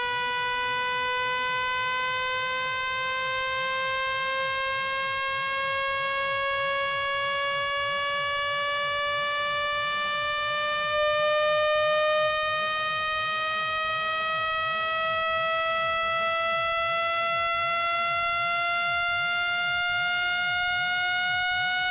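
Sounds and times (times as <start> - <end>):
buzzy electronic tone rising: 0.0 - 21.9.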